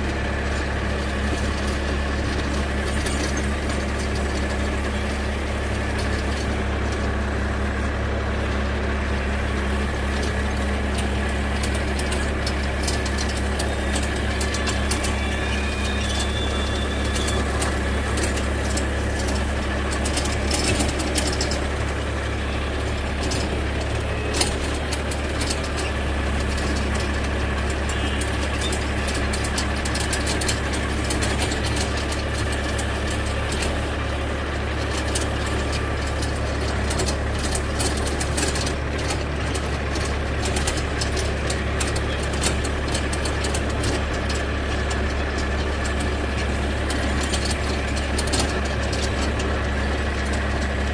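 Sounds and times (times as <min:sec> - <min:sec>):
tractor diesel engine running: 0:00.0 - 0:50.9
clicks and rattles: 0:01.3 - 0:07.2, 0:09.1 - 0:50.9.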